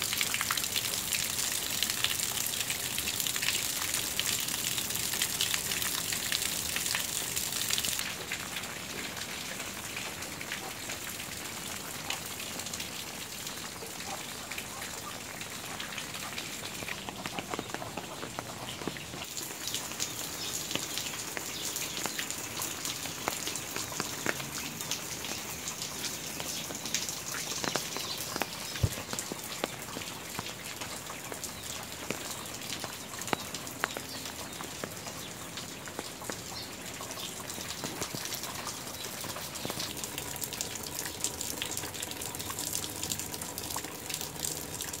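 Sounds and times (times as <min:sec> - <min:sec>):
raindrop ticks: 0:00.0 - 0:45.0
steady rain falling: 0:00.0 - 0:45.0.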